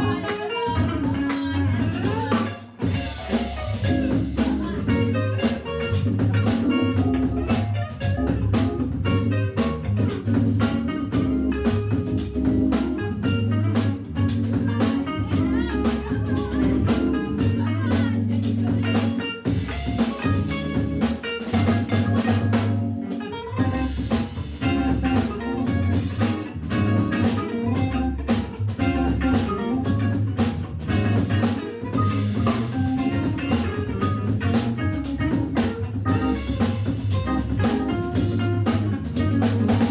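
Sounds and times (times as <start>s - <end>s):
drum kit beat: 0.0s - 39.9s
electric guitar melody: 0.0s - 39.9s
organ chords: 0.0s - 39.9s.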